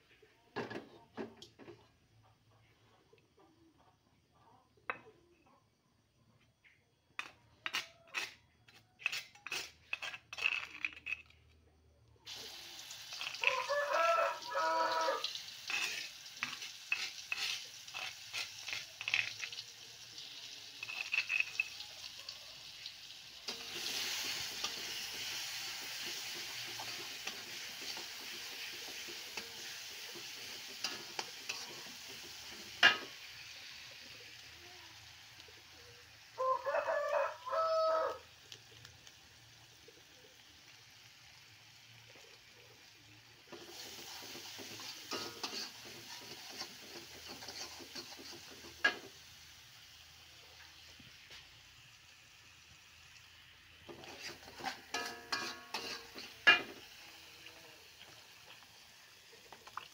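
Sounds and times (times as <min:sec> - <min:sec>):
spice paste sizzling in oil: 0:06.6 - 0:11.1, 0:12.3 - 0:59.9.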